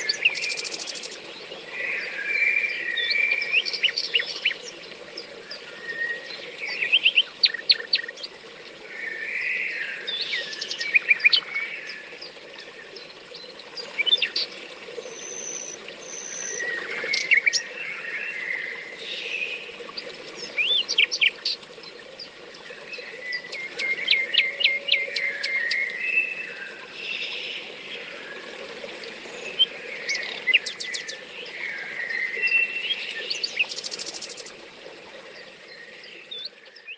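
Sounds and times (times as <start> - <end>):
songbirds singing and trilling: 0.0 - 36.9.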